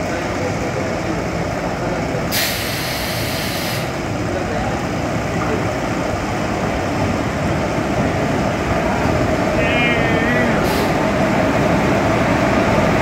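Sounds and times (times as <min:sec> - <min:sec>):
approaching train rumble: 0:00.0 - 0:13.0.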